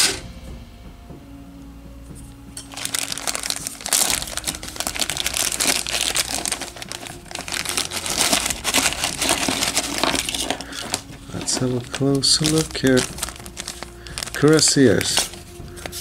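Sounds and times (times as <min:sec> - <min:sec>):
plastic zip bag crinkling: 0:02.6 - 0:16.0.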